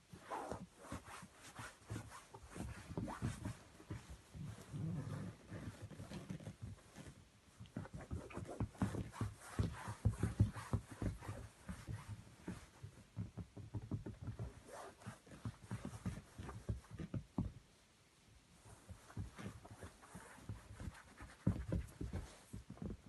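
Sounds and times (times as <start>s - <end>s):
soft scuffs and taps on fabric: 0.0s - 17.8s, 18.5s - 23.0s.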